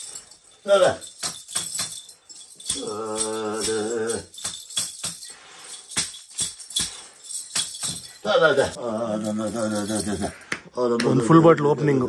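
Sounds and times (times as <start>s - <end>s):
small metal bells jingling: 0.0s - 10.5s.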